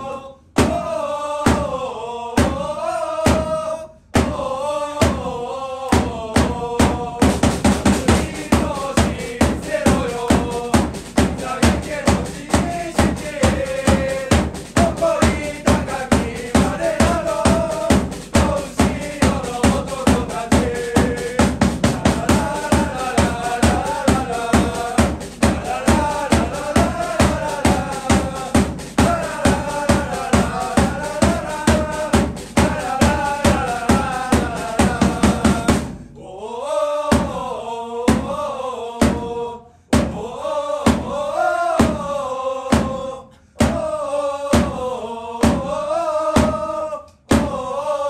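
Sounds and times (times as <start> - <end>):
crowd chanting melody: 0.0 - 48.0
drum beating: 0.6 - 36.2, 37.1 - 37.5, 38.1 - 47.8.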